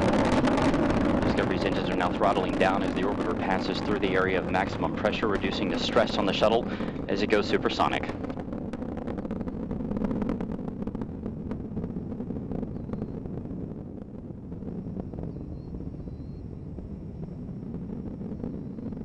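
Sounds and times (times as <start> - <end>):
dense crackling: 0.0 - 15.9
rocket exhaust rumble: 0.0 - 19.0.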